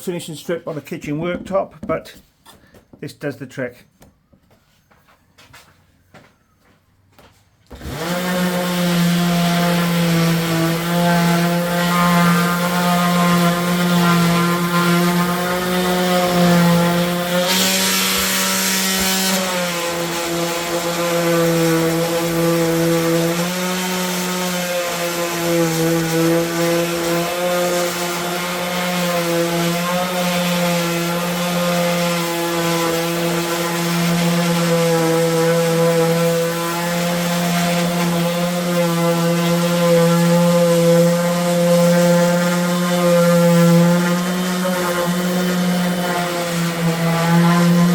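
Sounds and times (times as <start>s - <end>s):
handheld power tool running: 7.7s - 47.9s.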